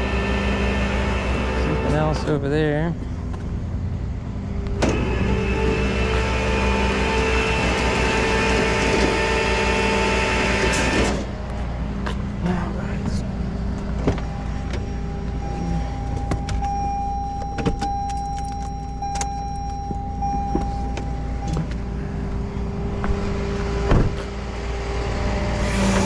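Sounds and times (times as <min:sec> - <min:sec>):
steady whine: 0:00.0 - 0:26.0
truck engine rumble: 0:00.0 - 0:26.0.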